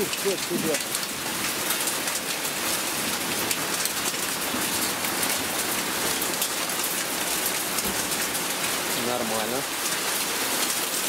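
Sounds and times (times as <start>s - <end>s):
heavy rain on paving and plants: 0.0s - 11.0s.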